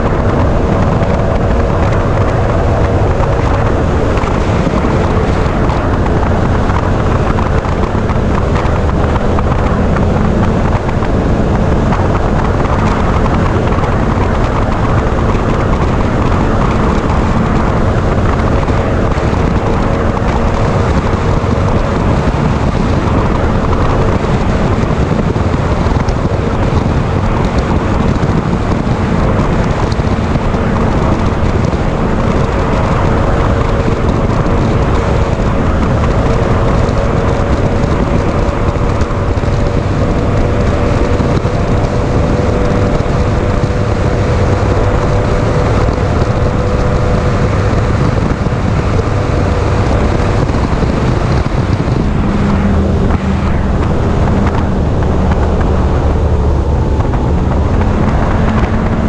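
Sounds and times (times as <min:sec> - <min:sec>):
outboard engine drone: 0:00.0 - 0:59.0
wind buffeting microphone: 0:00.0 - 0:59.0.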